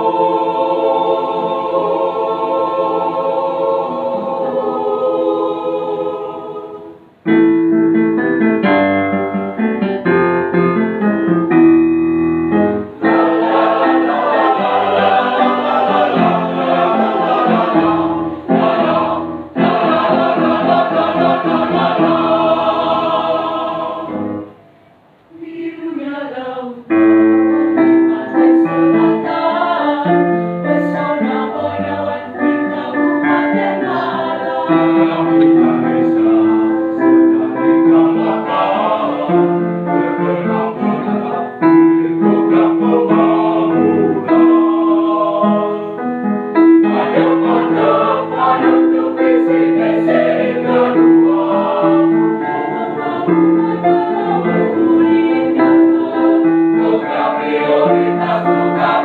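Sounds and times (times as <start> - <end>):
choir singing in harmony: 0.0 - 11.7, 12.5 - 59.0.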